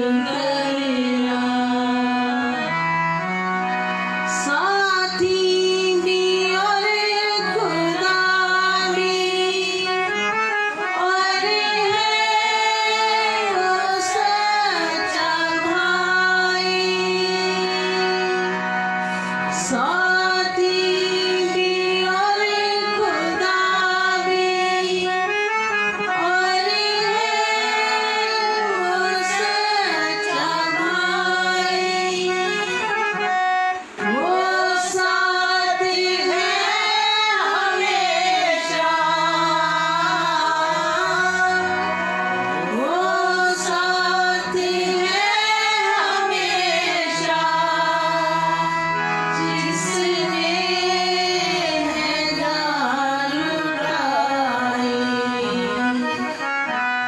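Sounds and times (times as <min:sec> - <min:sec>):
woman singing a hymn: 0:00.0 - 0:02.8, 0:04.3 - 0:18.6, 0:19.5 - 0:25.3, 0:26.2 - 0:33.3, 0:34.0 - 0:42.0, 0:42.7 - 0:56.4.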